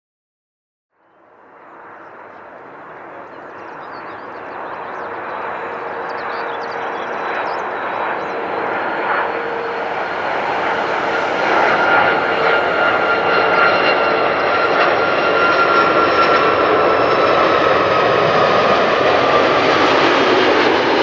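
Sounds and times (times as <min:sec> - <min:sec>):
jet roar with steady whine: 0:01.2 - 0:21.0.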